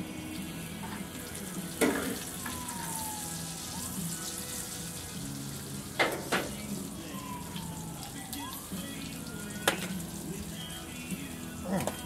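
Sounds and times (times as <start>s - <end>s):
chicken sizzling on a grill: 0.0s - 12.0s
faint country music: 0.0s - 12.0s.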